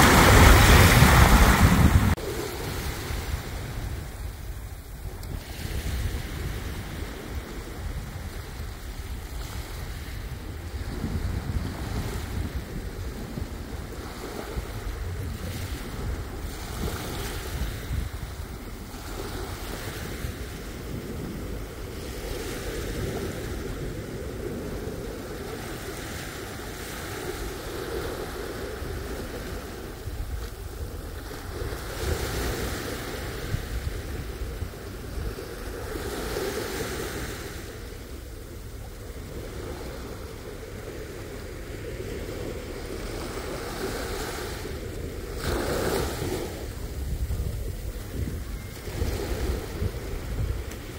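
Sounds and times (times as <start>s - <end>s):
wind rumbling on microphone: 0.0s - 50.9s.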